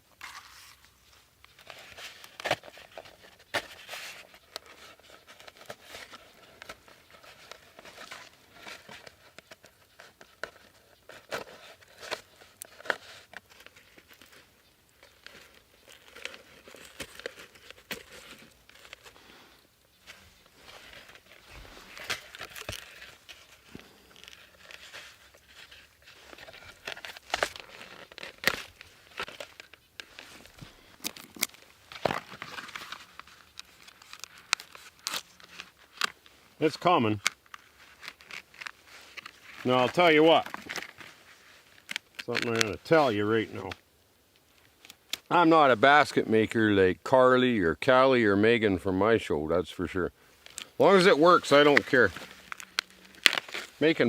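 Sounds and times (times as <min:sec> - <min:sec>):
dry plant stems crinkling and tearing: 0:00.2 - 0:43.8, 0:44.4 - 0:45.4, 0:49.8 - 0:54.0.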